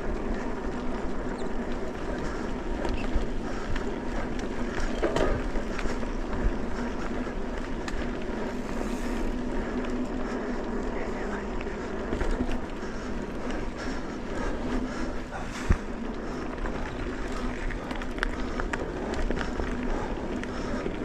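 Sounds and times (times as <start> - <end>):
bike clicks and rattles: 0.0 - 21.0
bike tyres rolling rumble: 0.0 - 21.0.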